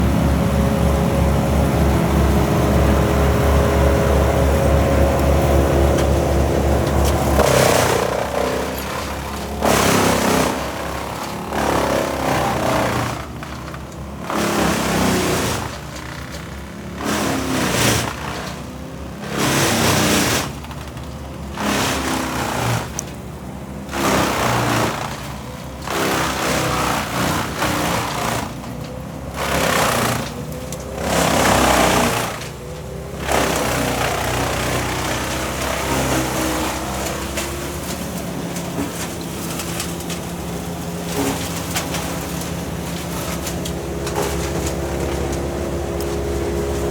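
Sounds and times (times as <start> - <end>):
small petrol engine surging: 0.0 - 46.9.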